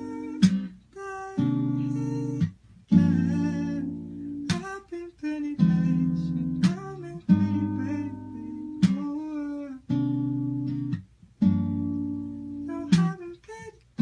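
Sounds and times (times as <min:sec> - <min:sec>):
acoustic guitar chords strummed: 0:00.0 - 0:13.7.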